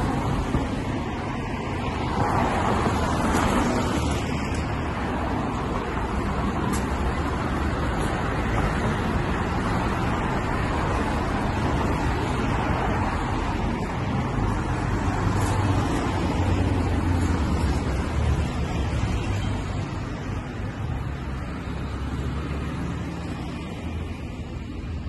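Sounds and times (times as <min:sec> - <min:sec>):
cars and truck driving past: 0:00.0 - 0:25.0.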